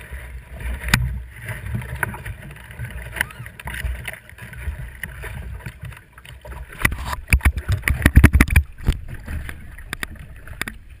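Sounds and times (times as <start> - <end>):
low rumble of water: 0.0 - 11.0.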